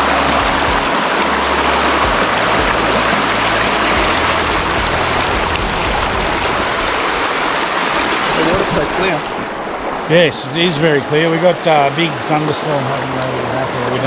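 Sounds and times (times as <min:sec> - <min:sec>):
creek water rushing over rocks: 0:00.0 - 0:14.0.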